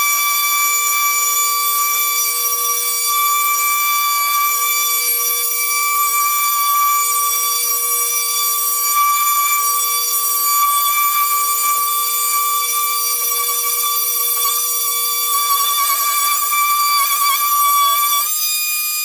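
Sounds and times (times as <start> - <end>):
power tool whining on wood: 0.0 - 19.0.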